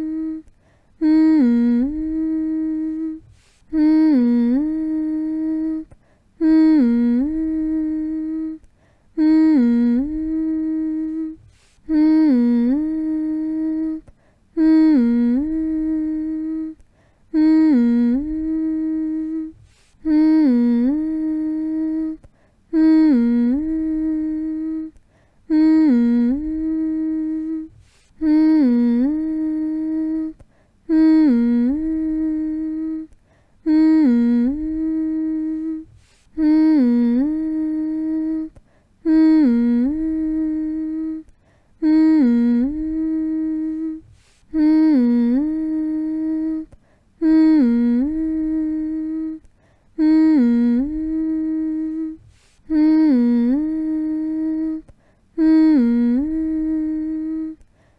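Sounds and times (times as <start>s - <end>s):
person humming a low note: 0.0s - 57.7s.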